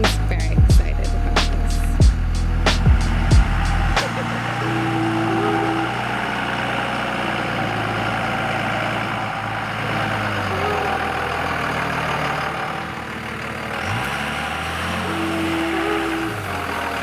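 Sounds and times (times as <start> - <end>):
pickup diesel engine running: 0.0 - 17.0.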